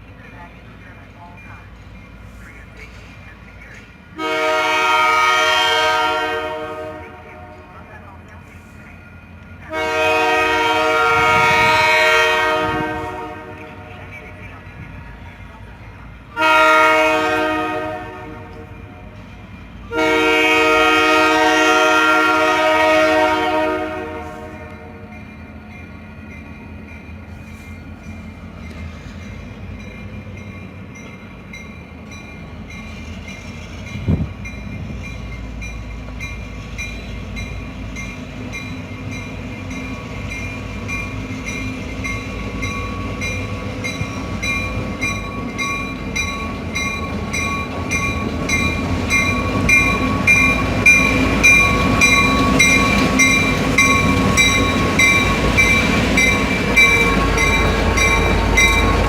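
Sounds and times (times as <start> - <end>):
freight train approaching: 0.0 - 59.0.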